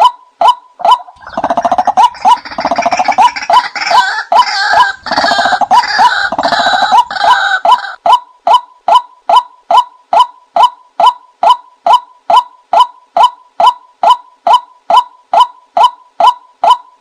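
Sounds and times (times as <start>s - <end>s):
rapidly pulsing bird call: 0.0s - 17.0s.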